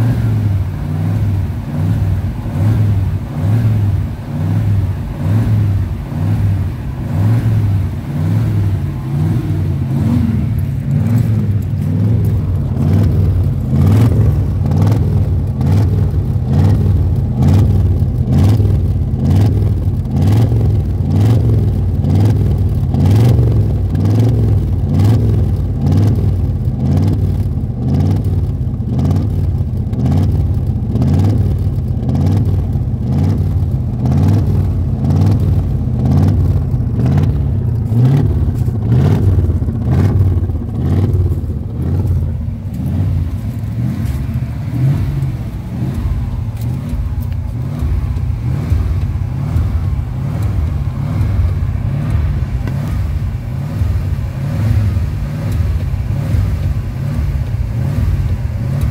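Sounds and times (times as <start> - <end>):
truck engine exhaust running: 0.0 - 58.9.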